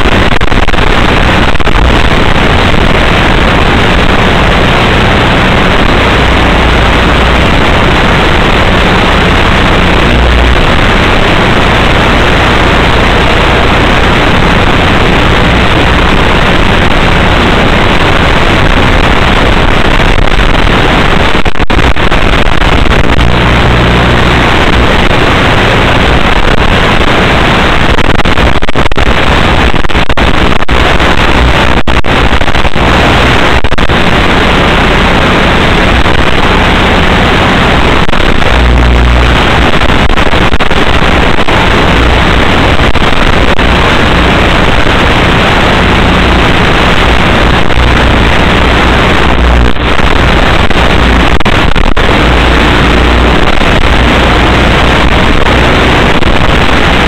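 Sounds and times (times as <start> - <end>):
static hiss: 0.0 - 57.0.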